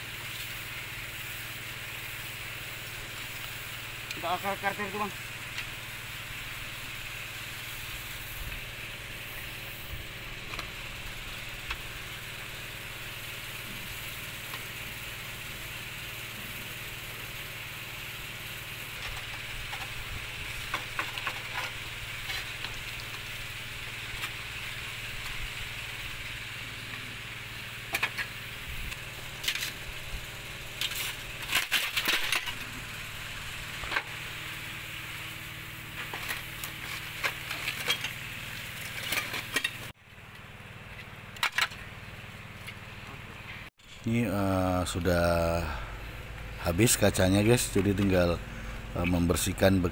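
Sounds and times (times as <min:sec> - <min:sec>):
background hum: 0:00.0 - 0:49.9.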